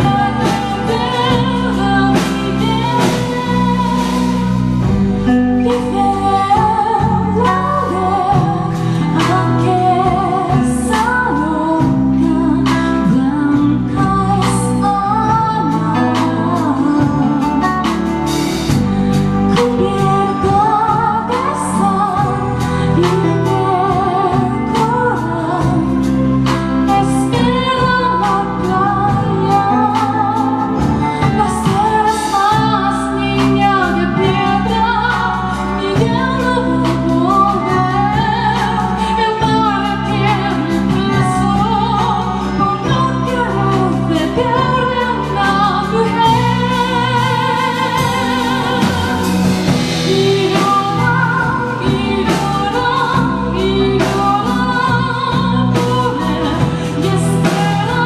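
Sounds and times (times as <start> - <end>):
band accompaniment: 0.0 - 58.0
sustained bass line: 0.0 - 58.0
woman singing with vibrato: 0.0 - 58.0.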